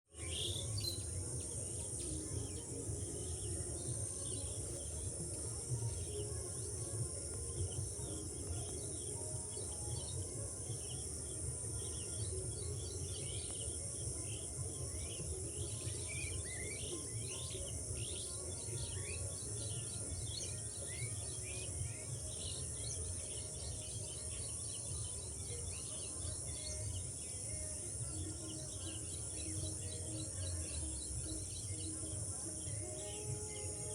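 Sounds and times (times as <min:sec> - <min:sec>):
high insect buzz: 0:00.1 - 0:33.9.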